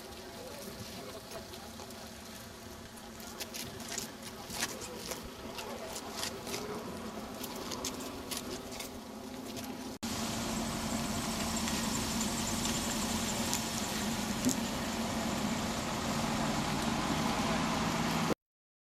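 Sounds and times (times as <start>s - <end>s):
car engine running: 0.0s - 18.4s
outdoor street noise: 0.0s - 18.4s.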